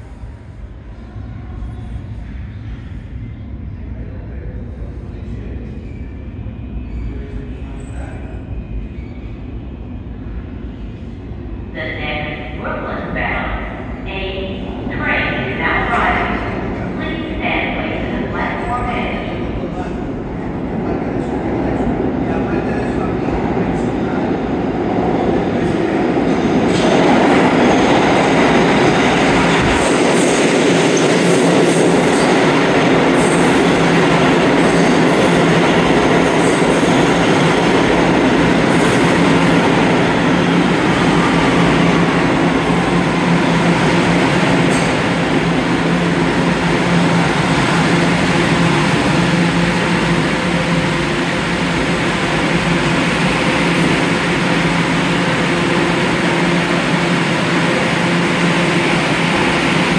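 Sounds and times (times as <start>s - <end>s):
subway train wheels on rails: 0.0s - 59.9s
train hum: 0.0s - 59.9s.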